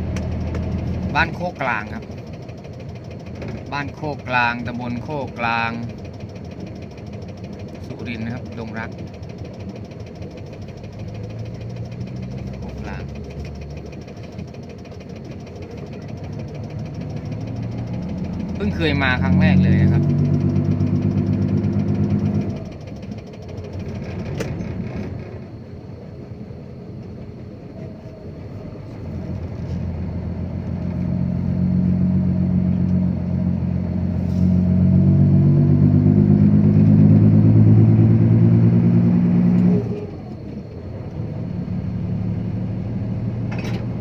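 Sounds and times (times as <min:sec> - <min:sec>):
dump truck diesel engine: 0:00.0 - 0:44.0.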